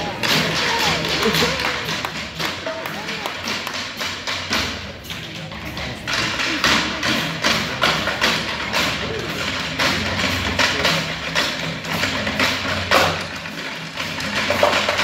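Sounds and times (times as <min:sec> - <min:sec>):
marching drumline beat: 0:00.0 - 0:15.0.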